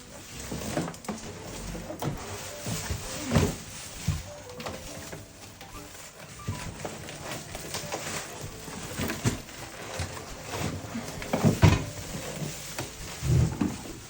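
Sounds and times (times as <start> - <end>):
background music: 0.0 - 14.0
knocks and handling noises: 0.0 - 14.0.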